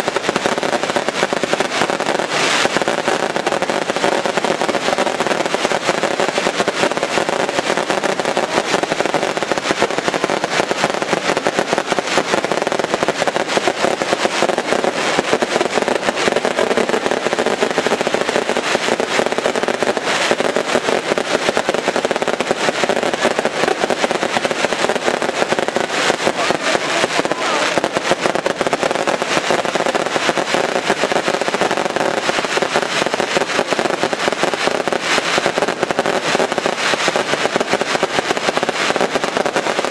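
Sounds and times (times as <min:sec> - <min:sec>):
fireworks crackling and banging: 0:00.0 - 0:39.9.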